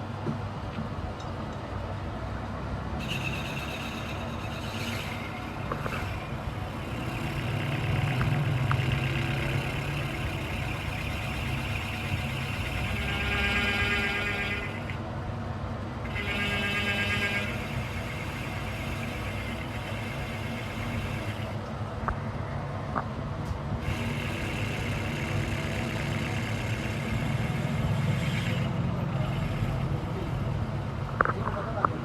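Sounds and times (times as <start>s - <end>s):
vehicle engine running: 3.0s - 32.0s.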